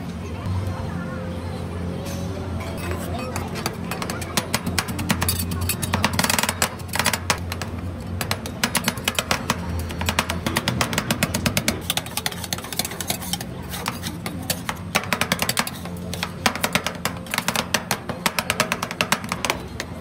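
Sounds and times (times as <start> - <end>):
metal spatulas chopping on metal plate: 2.8 - 20.0.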